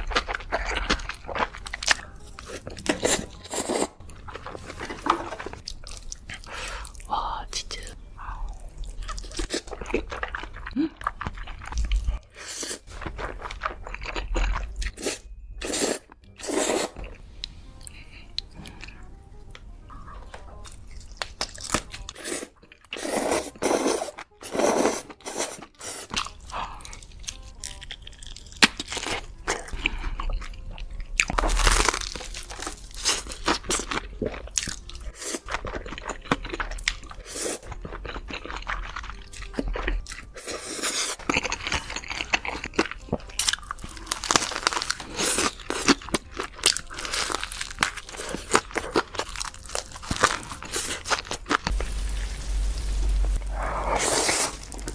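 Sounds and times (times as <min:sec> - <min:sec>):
person crunching and chewing: 0:00.0 - 0:07.1, 0:08.4 - 0:17.2, 0:20.8 - 0:54.9.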